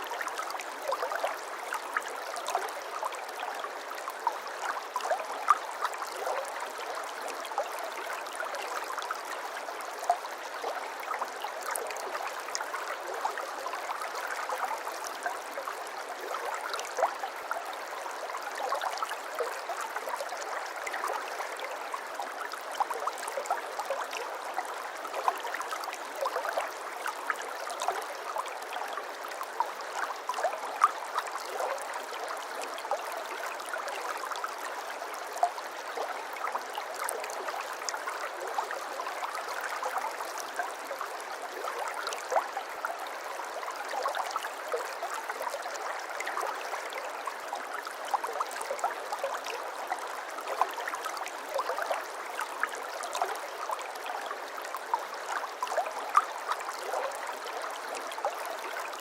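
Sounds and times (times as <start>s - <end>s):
babbling stream water: 0.0s - 59.0s.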